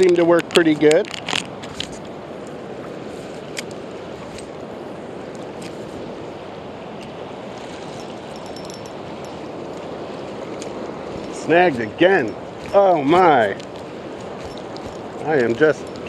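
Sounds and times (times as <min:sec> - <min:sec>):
river rushing: 0:01.4 - 0:16.0.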